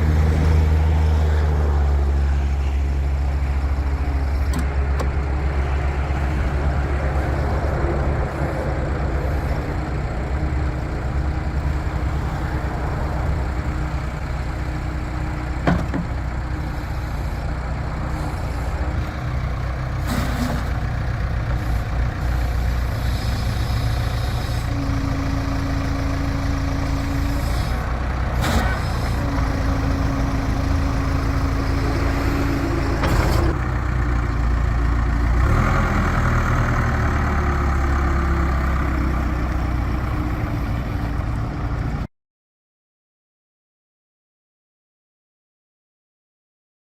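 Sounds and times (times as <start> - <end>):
diesel engine running: 0.0 - 42.1.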